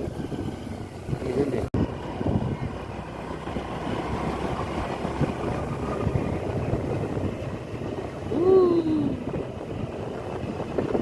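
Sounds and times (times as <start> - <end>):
vehicle engine and road rumble: 0.0 - 11.0
wind buffeting microphone: 0.0 - 11.0.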